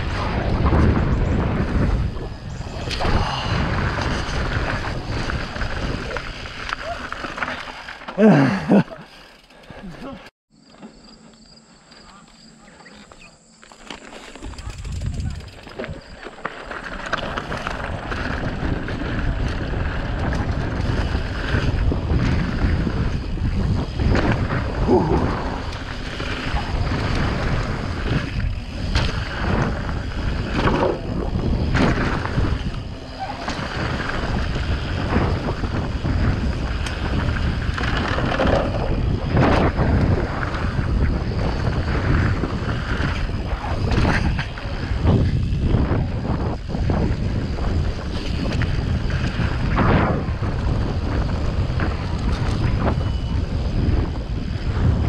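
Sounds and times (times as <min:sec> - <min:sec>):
wind on microphone: 0:00.0 - 0:07.4, 0:14.3 - 0:16.2, 0:16.9 - 0:55.0
tyres rolling on gravel: 0:00.0 - 0:10.3, 0:12.7 - 0:54.0.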